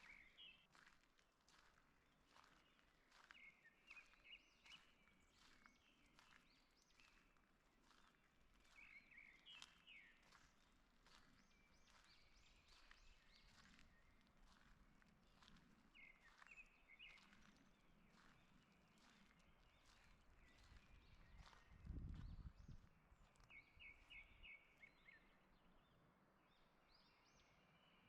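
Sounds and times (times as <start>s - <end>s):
soft footsteps on forest path: 0.0s - 28.0s
songbird chirps: 0.0s - 28.0s.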